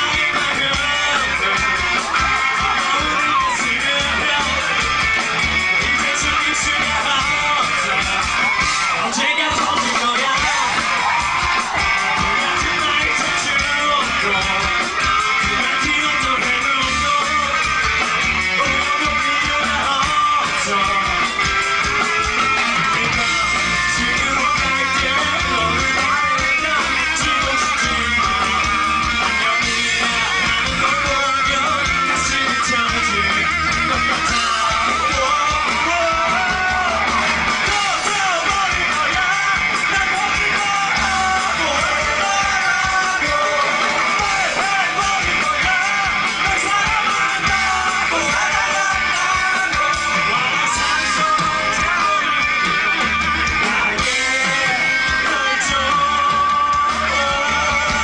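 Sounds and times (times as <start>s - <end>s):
live rock band music: 0.0s - 58.0s
person singing: 0.0s - 58.0s
strummed guitar: 0.0s - 58.0s.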